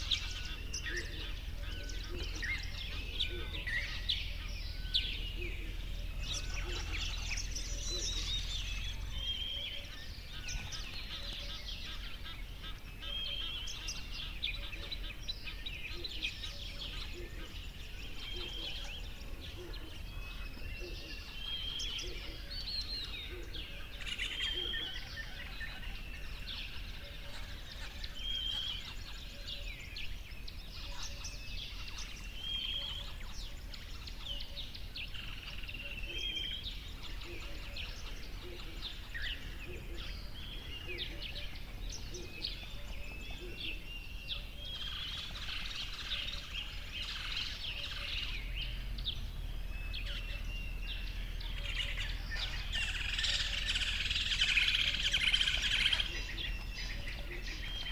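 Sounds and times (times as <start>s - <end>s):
wild birds chirping and singing: 0.0s - 57.9s.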